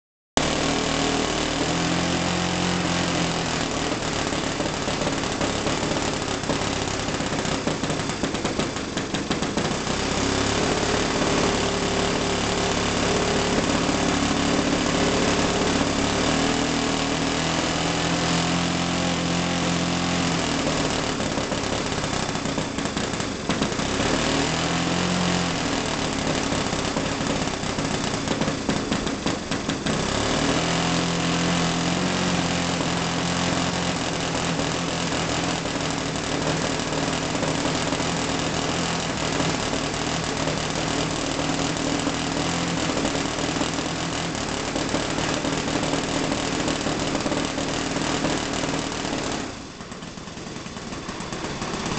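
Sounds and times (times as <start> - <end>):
model glow engine running: 0.5 - 16.3, 18.3 - 51.9.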